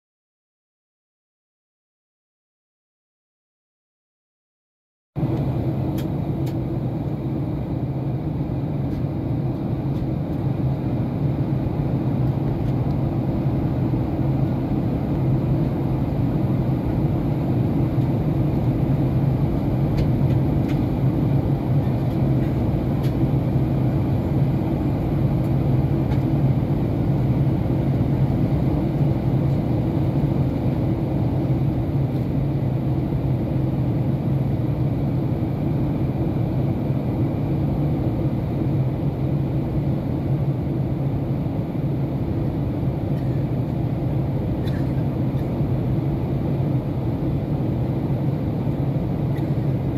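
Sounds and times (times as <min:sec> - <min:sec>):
airliner cabin engine drone: 0:05.2 - 0:49.9.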